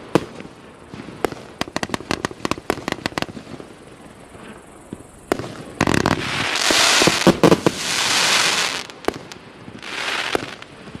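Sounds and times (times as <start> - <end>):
fireworks firing: 0.0 - 11.0.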